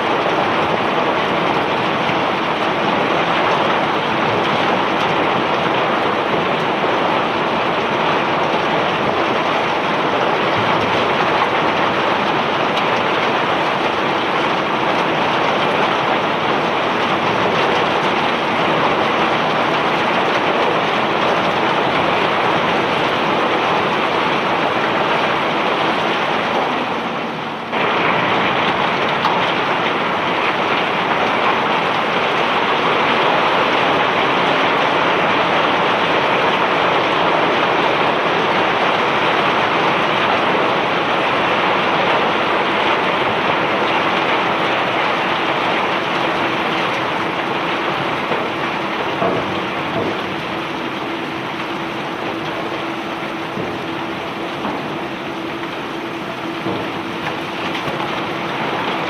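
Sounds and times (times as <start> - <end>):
rock cargo pouring off conveyor: 0.0 - 26.9, 27.6 - 59.0.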